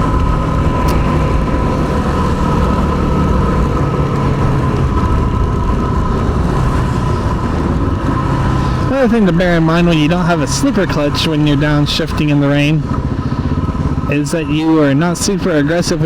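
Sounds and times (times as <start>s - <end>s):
high whine: 0.0s - 16.0s
motorcycle engine running: 0.0s - 16.0s
wind and road noise: 0.0s - 16.0s.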